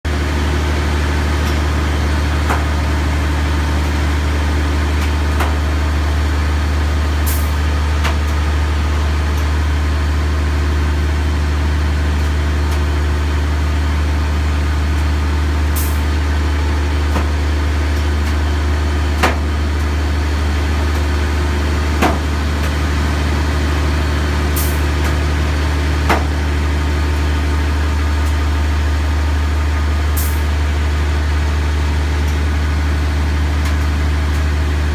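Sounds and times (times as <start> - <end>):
crane machinery humming: 0.1 - 34.9.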